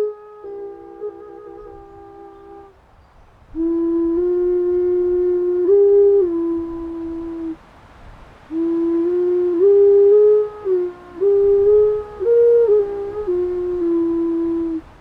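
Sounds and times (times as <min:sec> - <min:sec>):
slow flute-like melody: 0:00.0 - 0:02.8, 0:03.6 - 0:07.7, 0:08.4 - 0:15.0.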